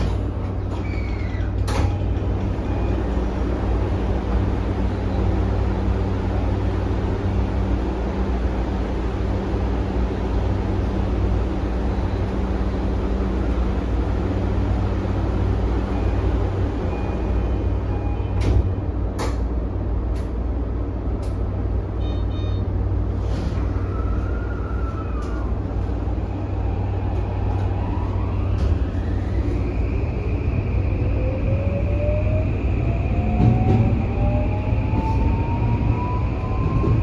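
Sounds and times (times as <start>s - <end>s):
train wheels rumbling on rails: 0.0s - 21.9s, 23.0s - 37.0s.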